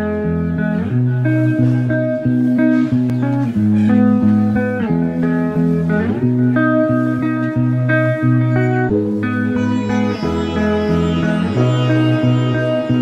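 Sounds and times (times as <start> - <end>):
guitar background music: 0.0 - 13.0.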